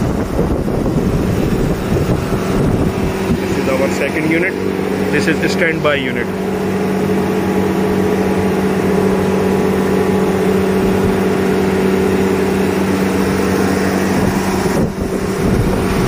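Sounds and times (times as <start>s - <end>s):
compressor humming: 0.0s - 16.0s
condenser fans whooshing: 0.0s - 16.0s.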